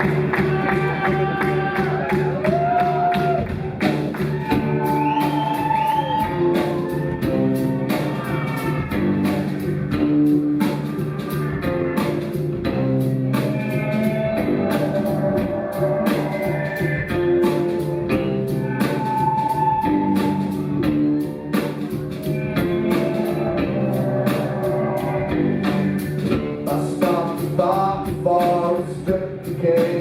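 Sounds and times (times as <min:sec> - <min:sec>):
drums steady beat: 0:00.0 - 0:30.0
live band playing: 0:00.0 - 0:30.0.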